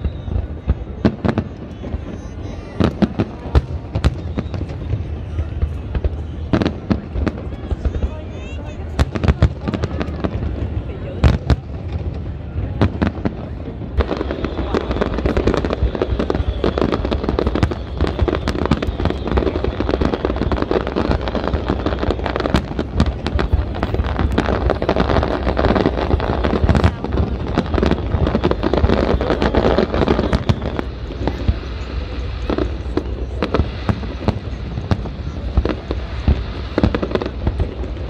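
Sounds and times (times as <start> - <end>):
firework bangs and crackle: 0.0 - 38.0.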